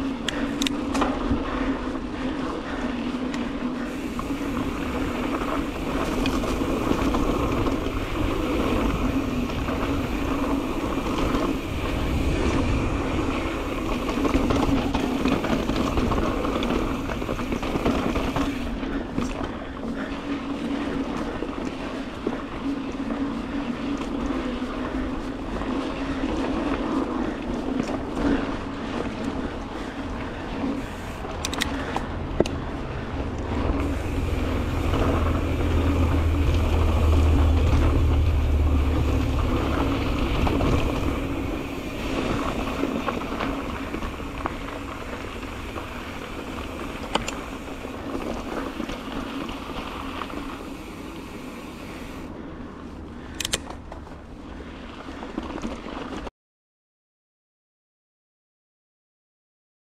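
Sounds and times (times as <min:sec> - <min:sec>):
bike tyres rolling on dirt: 0:00.0 - 0:56.3
wind rumble on microphone: 0:00.0 - 0:56.3.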